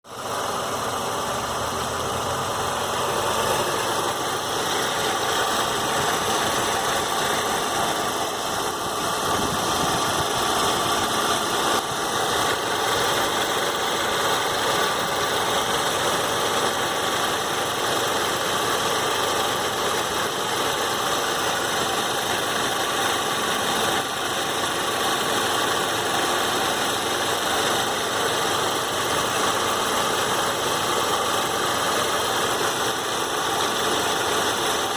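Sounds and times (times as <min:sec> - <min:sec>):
car engine running steadily: 0:00.1 - 0:34.9
engine clicking: 0:00.2 - 0:34.9.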